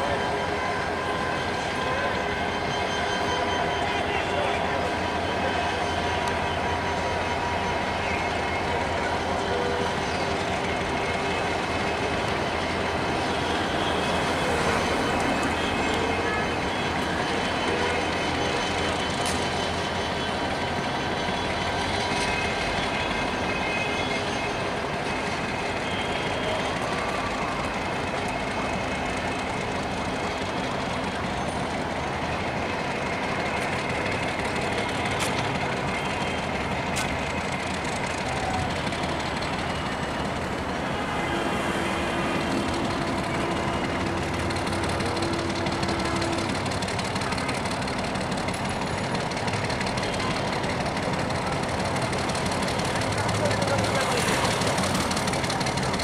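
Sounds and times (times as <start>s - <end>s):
high wheel squealing: 0.0s - 56.0s.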